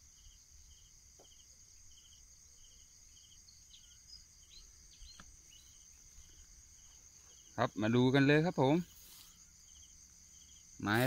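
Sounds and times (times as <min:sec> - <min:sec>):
insect chirping: 0:00.0 - 0:11.0
insect drone: 0:00.0 - 0:11.0.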